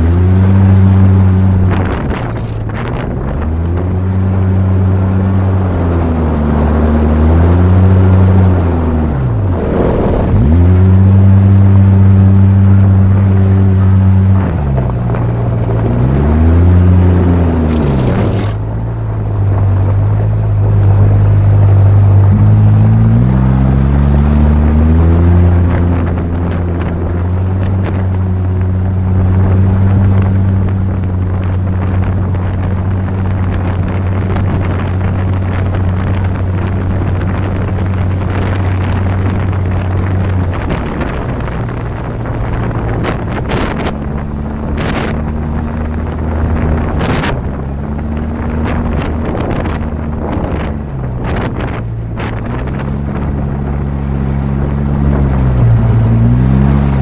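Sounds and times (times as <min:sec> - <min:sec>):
off-road vehicle engine running: 0:00.0 - 0:57.0
wind on microphone: 0:00.0 - 0:57.0.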